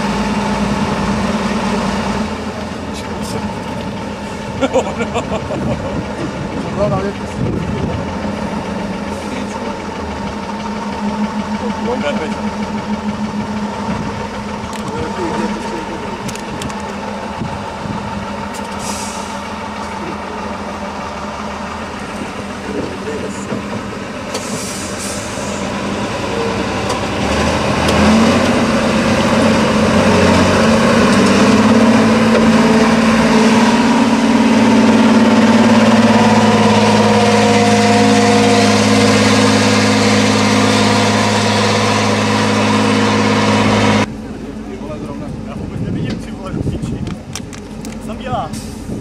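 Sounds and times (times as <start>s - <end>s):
truck diesel engine labouring: 0.0s - 49.0s.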